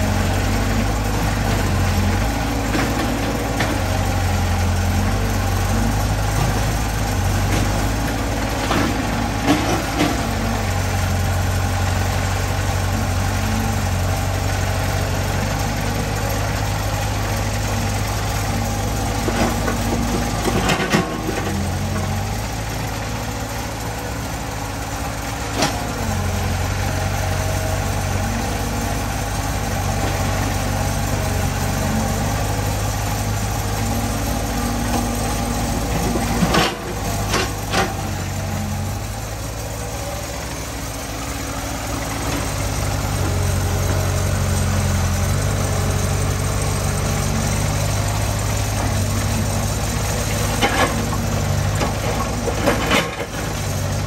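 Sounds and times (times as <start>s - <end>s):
engine idling: 0.0s - 54.0s
excavator working: 0.0s - 54.0s.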